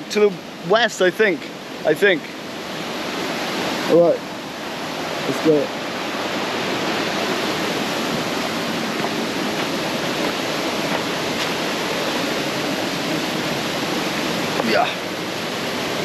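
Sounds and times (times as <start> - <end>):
river rapids rushing: 0.0 - 16.0.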